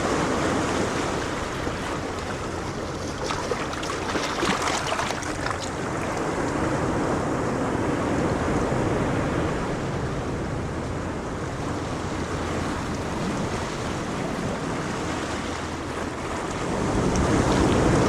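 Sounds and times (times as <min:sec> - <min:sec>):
ocean waves washing onto beach: 0:00.0 - 0:18.0.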